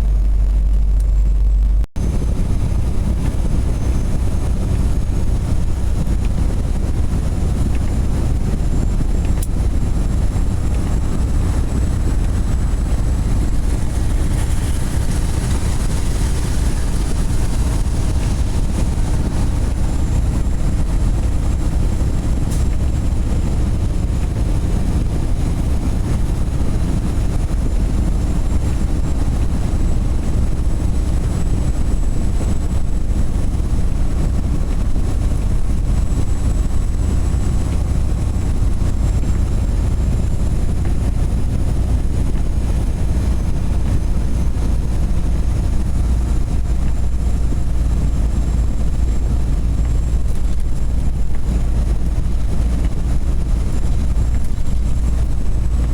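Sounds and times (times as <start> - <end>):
truck engine and road rumble: 0.0 - 55.9.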